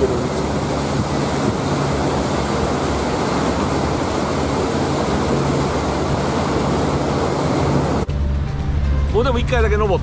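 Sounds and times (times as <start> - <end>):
boat motor humming: 0.0 - 10.0
water rushing along hull: 0.0 - 10.0.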